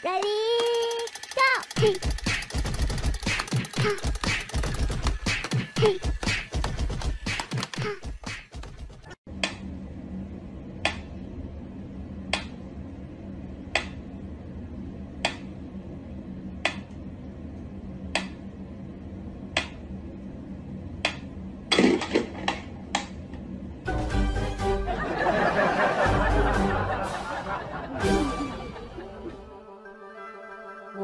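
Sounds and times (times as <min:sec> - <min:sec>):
steady low hum: 0:00.0 - 0:29.8.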